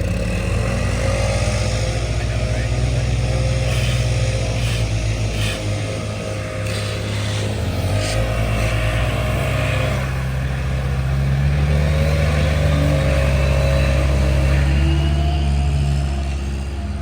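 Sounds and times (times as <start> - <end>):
large engine running under load: 0.0 - 17.0.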